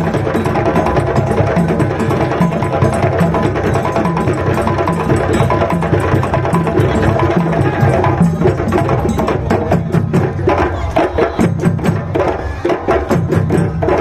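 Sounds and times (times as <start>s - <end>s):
fast drumming ensemble: 0.0s - 14.0s.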